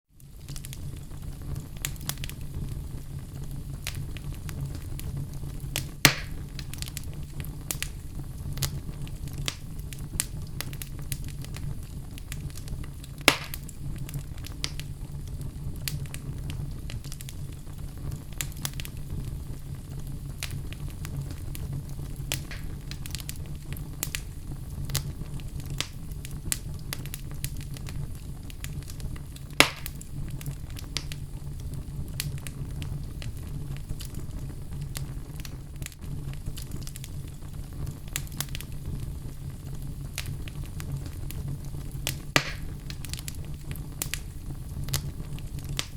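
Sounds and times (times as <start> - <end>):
fire crackling: 0.1 - 45.9
fire rumbling: 0.1 - 45.9
sharp pops of fire: 0.2 - 45.9.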